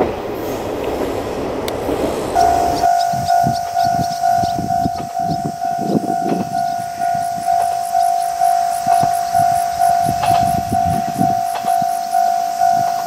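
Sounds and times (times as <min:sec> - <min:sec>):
gusty low rumble: 0:00.0 - 0:13.0
level crossing bell ringing: 0:02.4 - 0:13.0.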